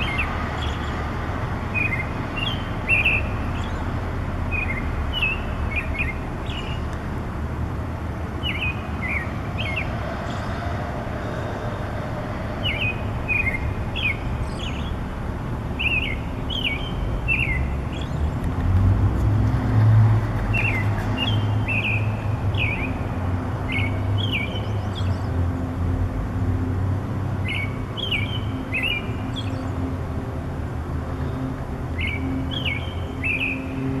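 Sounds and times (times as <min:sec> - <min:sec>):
songbird singing: 0:00.0 - 0:07.1, 0:08.2 - 0:19.2, 0:19.9 - 0:26.0, 0:27.3 - 0:30.2, 0:31.1 - 0:34.0
distant traffic rumble: 0:00.0 - 0:34.0.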